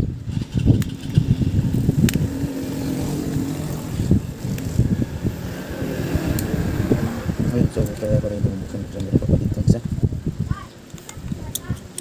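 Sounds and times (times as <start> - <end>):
steady hum: 0.0 - 10.5
low uneven engine rumble: 0.0 - 11.5.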